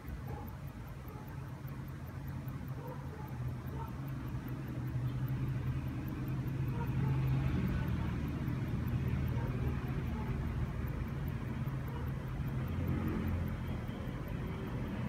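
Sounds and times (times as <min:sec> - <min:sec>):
pocket watch ticking: 0:00.0 - 0:15.0.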